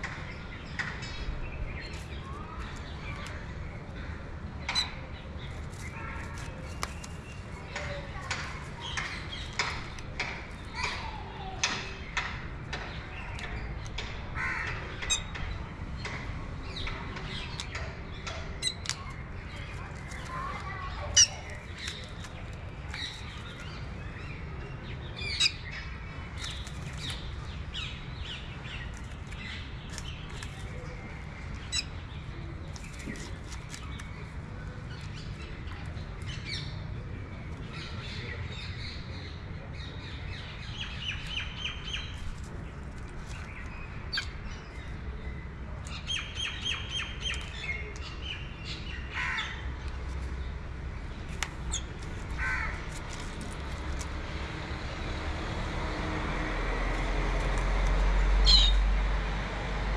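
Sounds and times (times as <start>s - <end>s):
birds chirping and calling: 0.0s - 55.1s, 56.2s - 59.0s.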